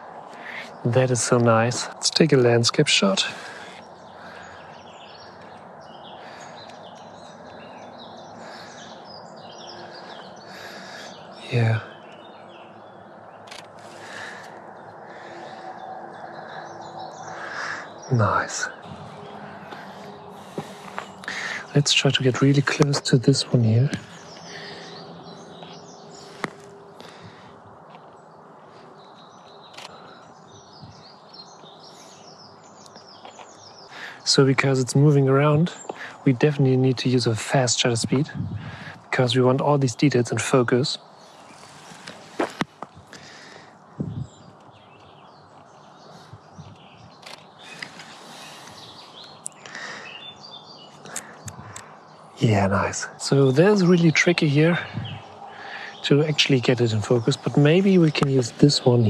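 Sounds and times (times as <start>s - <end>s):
open-air ambience hiss: 0.0s - 59.0s
small birds chirping: 0.0s - 59.0s.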